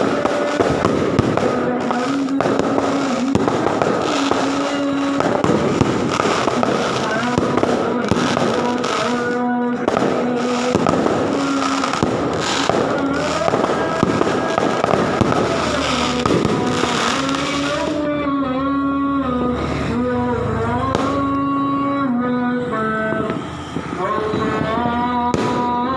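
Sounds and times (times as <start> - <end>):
fireworks crackling and popping: 0.0 - 18.1, 20.8 - 21.6, 22.8 - 25.9
person chanting: 0.0 - 25.9.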